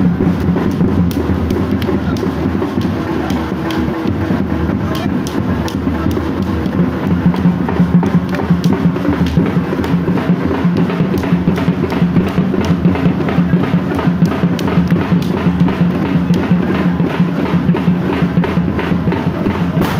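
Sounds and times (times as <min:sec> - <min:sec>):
deep drum beating: 0:00.0 - 0:19.9
fast drumming: 0:00.0 - 0:19.9.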